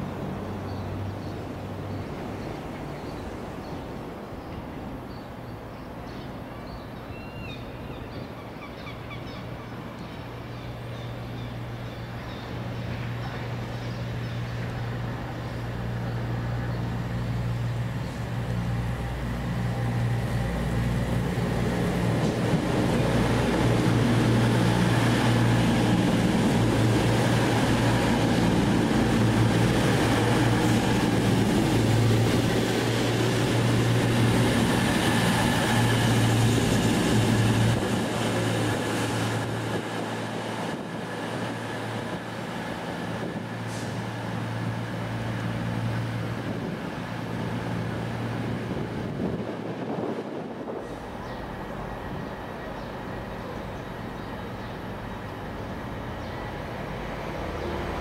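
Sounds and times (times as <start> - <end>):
train rumbling with low hum: 0.0 - 58.0.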